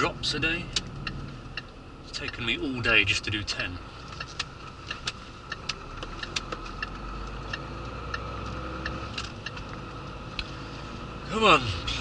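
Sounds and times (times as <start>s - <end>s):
sharp ticking clicks: 0.7s - 10.5s.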